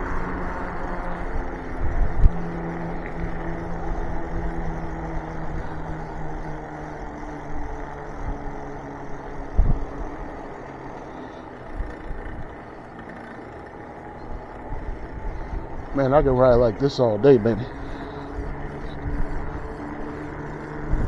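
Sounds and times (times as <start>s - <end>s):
low motor hum: 0.0s - 21.0s
wind and road noise: 0.0s - 21.0s.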